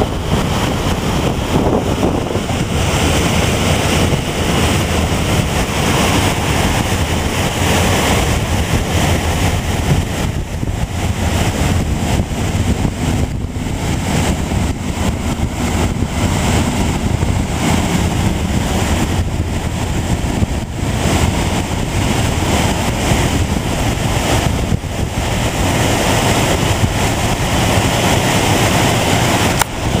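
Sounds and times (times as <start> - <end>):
waterfall rushing: 0.0 - 30.0
wind rumbling on microphone: 0.0 - 30.0.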